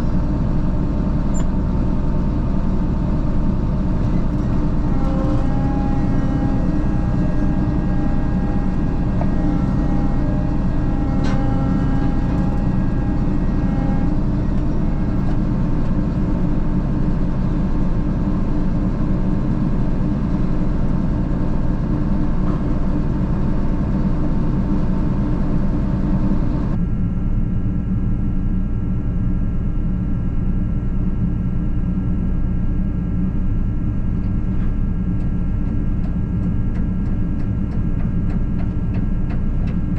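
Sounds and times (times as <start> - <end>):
heavy diesel engine running: 0.0 - 29.3, 32.2 - 39.9.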